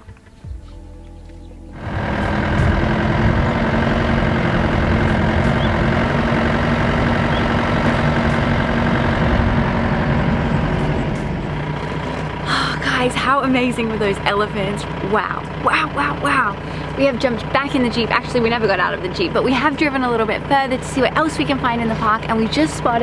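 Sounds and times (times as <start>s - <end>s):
vehicle engine running: 0.0s - 23.0s
road noise on dirt track: 1.7s - 23.0s.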